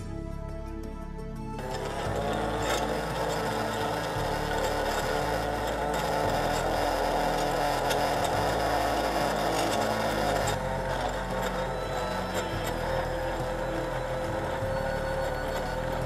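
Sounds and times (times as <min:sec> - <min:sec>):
drink mixer motor whirring: 0:01.6 - 0:16.0.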